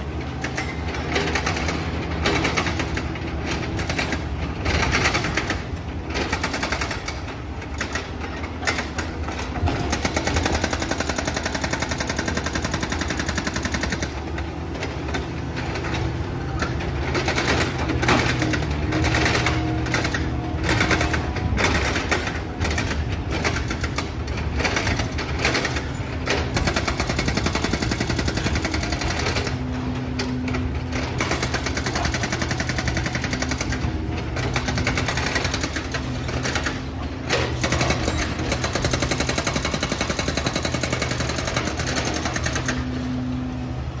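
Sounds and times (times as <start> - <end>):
excavator diesel engine clattering: 0.0 - 44.0.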